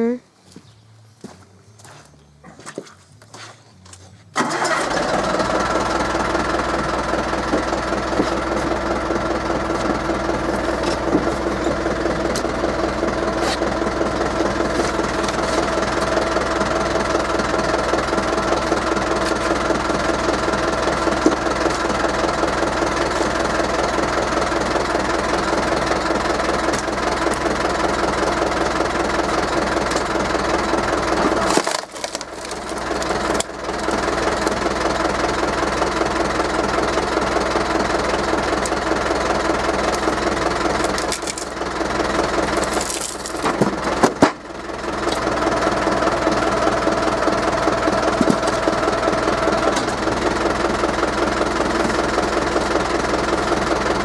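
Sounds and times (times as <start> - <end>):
forklift engine running: 3.2 - 54.0.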